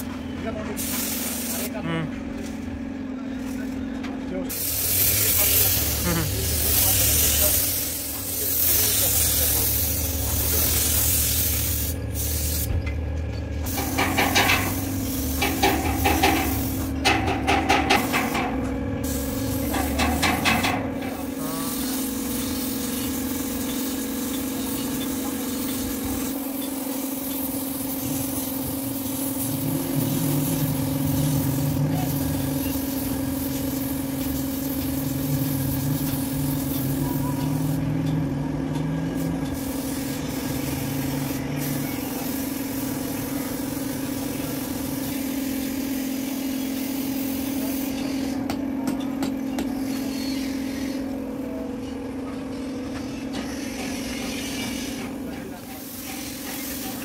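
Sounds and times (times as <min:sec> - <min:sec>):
paint spray gun hissing: 0:00.8 - 0:01.7, 0:04.5 - 0:12.7, 0:13.7 - 0:37.9, 0:39.2 - 0:48.5, 0:53.6 - 0:57.0.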